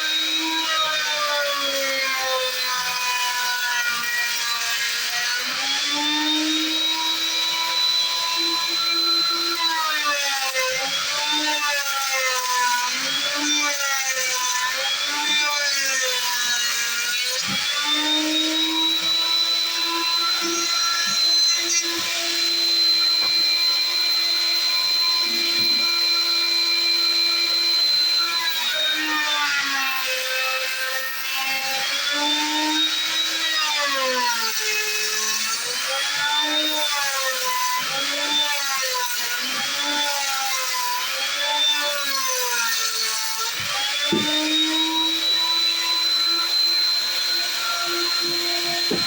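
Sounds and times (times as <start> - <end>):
electric power tool motor whining: 0.0 - 29.4, 32.0 - 49.0.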